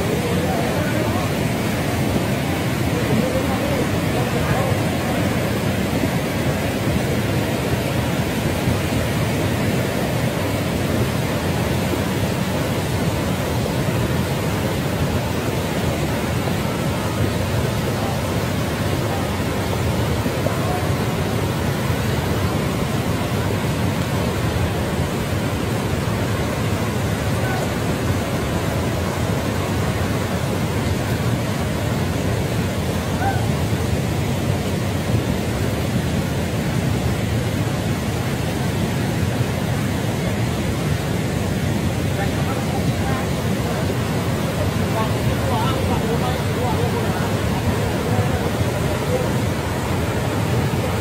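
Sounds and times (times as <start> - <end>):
flood water rushing: 0.0 - 51.0.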